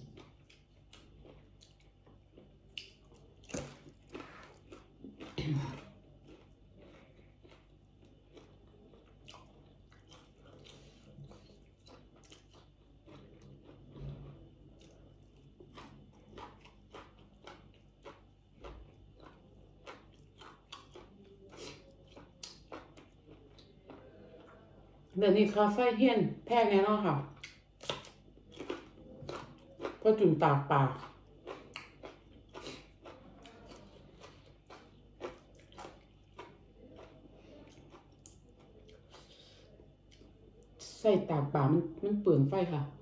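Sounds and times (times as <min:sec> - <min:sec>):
person biting and chewing food: 0:00.0 - 0:24.4, 0:27.4 - 0:30.0, 0:31.0 - 0:40.6.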